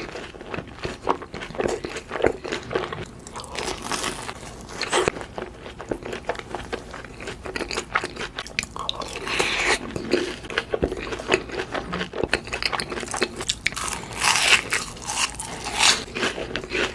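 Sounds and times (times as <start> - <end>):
crunchy food being chewed: 0.0 - 16.9.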